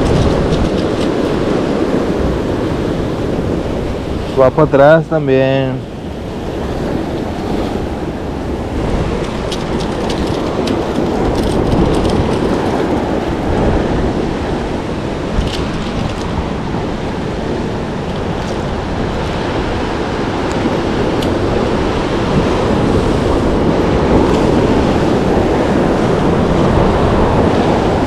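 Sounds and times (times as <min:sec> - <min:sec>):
ocean surf rushing: 0:00.0 - 0:28.0
wind buffeting microphone: 0:00.0 - 0:28.0.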